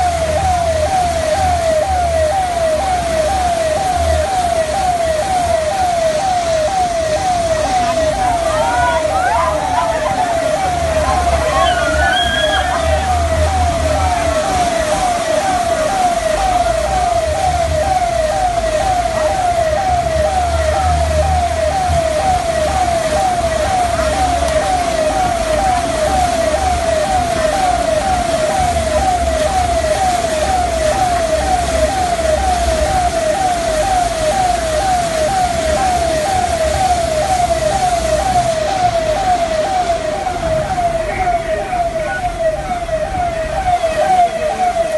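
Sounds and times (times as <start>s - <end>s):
continuous rushing noise: 0.0s - 44.9s
electronic siren sweeping: 0.0s - 44.9s.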